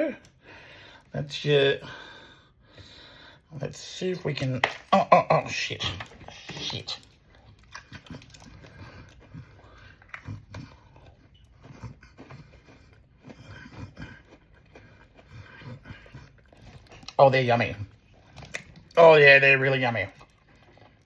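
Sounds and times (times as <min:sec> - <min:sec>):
cookies being chewed: 0:00.1 - 0:21.0.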